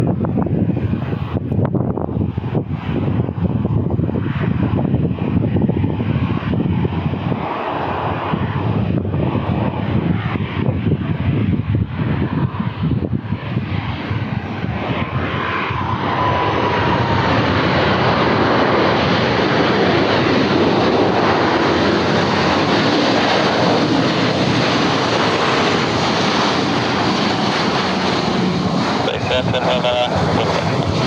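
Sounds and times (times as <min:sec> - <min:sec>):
airplane engine roar: 0:00.0 - 0:31.0.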